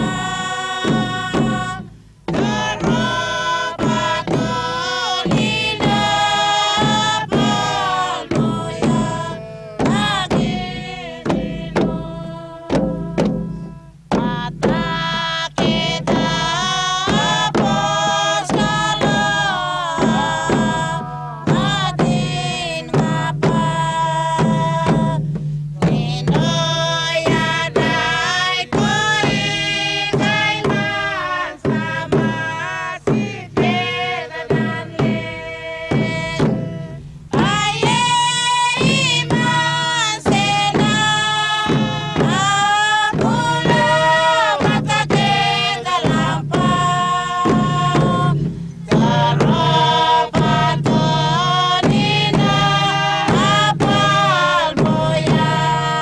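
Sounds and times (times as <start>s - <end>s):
steady drum beat: 0.0s - 56.0s
voices singing together: 0.0s - 56.0s.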